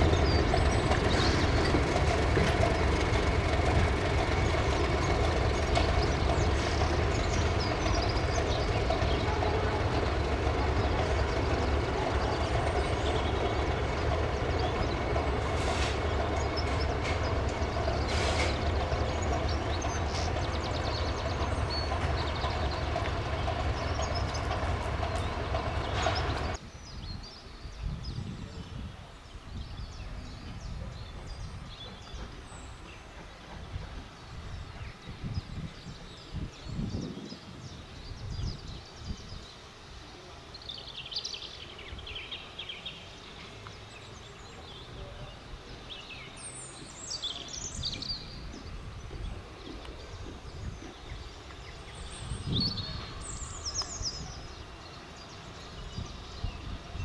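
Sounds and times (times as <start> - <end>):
diesel locomotive engine drone: 0.0 - 27.2, 27.8 - 57.0.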